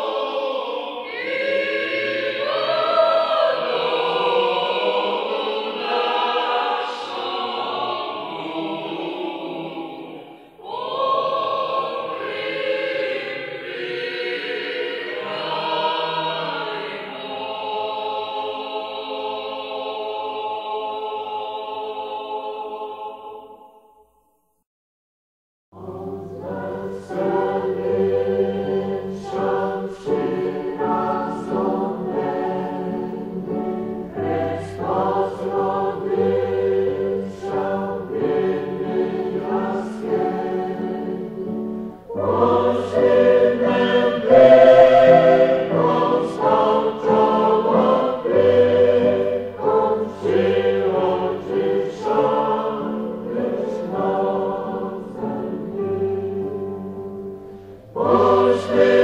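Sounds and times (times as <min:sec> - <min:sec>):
choir singing a carol: 0:00.0 - 0:24.4, 0:25.8 - 0:59.0.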